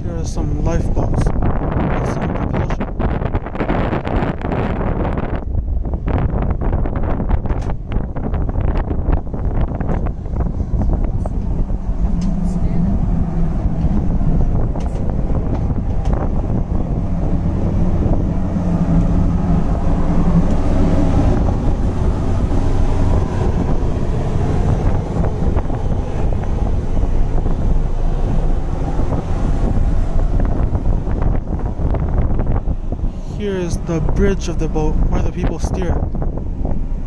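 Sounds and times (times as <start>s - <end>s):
ferry machinery low hum: 0.0s - 37.0s
wind buffeting microphone: 0.0s - 37.0s.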